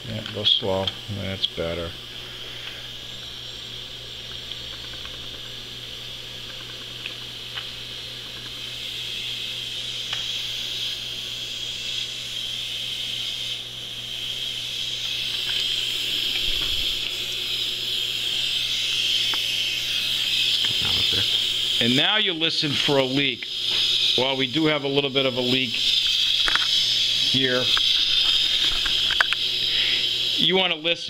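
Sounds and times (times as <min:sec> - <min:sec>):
compressed air hissing: 0:00.0 - 0:30.9.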